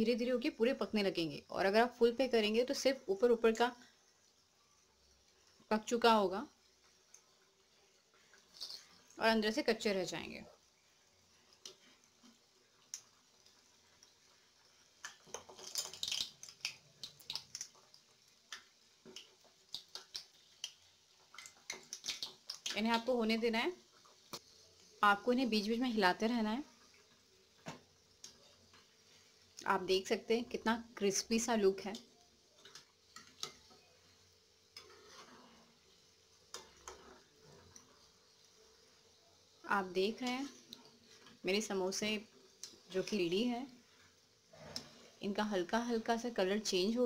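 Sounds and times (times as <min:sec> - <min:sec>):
deep-frying in hot oil: 0:00.0 - 0:47.0.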